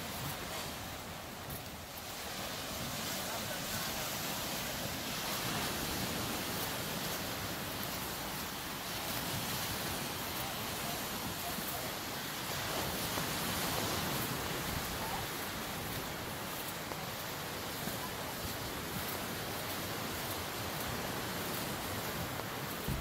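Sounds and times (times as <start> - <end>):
waves washing onto beach: 0.0 - 23.0.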